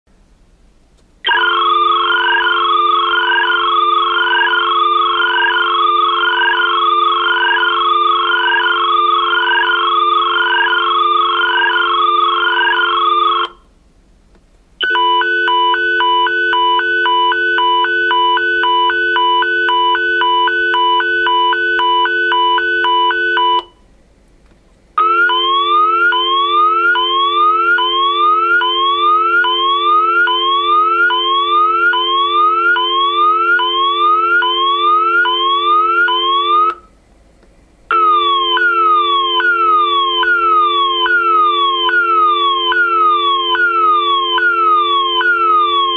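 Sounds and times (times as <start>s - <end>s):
high-pitched siren-like tone: 1.3s - 13.6s, 14.8s - 23.7s, 25.0s - 36.9s, 37.9s - 45.9s
phone dial tone: 1.3s - 13.6s, 14.8s - 23.8s, 25.0s - 36.9s, 37.9s - 45.9s.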